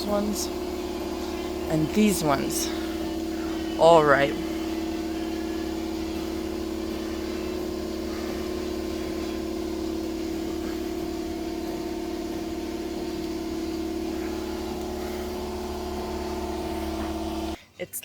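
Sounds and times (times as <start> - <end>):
steady machine hum: 0.0 - 17.6.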